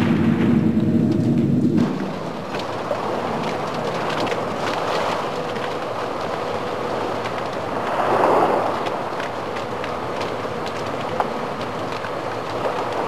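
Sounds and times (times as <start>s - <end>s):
faint steady hum: 0.0s - 13.0s
water rushing and churning: 1.1s - 13.0s.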